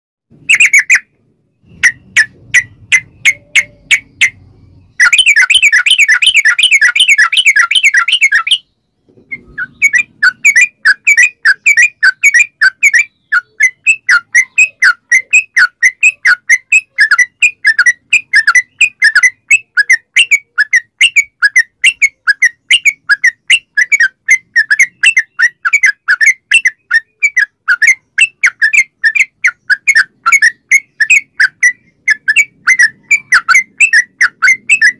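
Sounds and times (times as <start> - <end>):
bird chattering song: 0.3 - 34.9.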